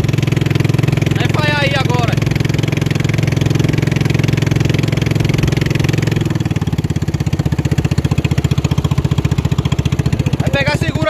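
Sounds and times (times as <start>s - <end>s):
boat engine running loudly: 0.0s - 11.0s.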